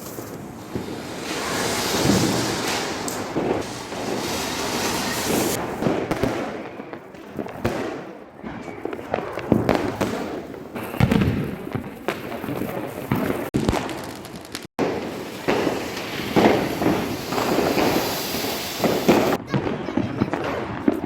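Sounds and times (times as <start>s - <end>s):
firework bangs and crackling: 0.0s - 21.0s.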